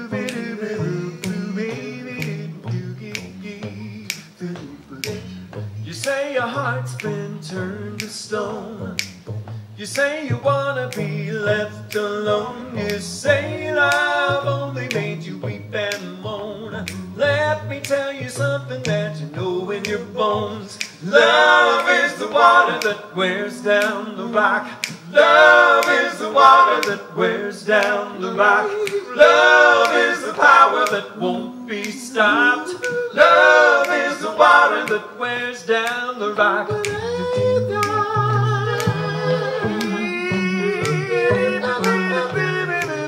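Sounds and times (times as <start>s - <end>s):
men singing in harmony: 0.0s - 9.0s, 9.8s - 43.0s
finger snaps: 0.1s - 43.0s.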